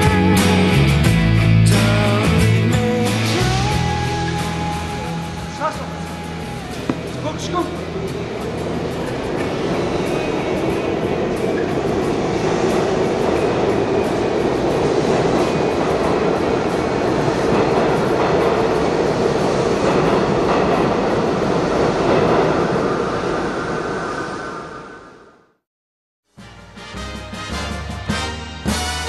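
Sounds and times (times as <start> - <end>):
subway train rumbling past: 0.0 - 25.6.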